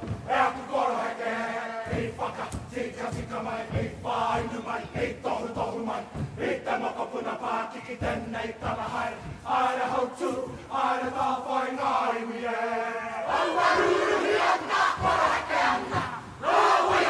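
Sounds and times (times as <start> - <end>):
group chanting in unison: 0.0 - 17.0
group singing long held notes: 0.0 - 17.0.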